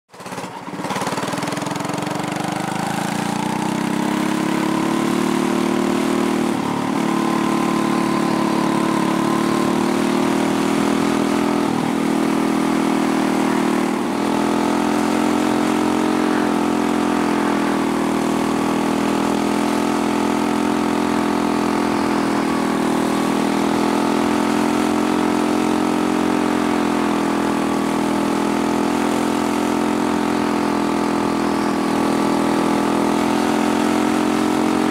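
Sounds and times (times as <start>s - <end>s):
single-cylinder race car engine: 0.1s - 34.9s.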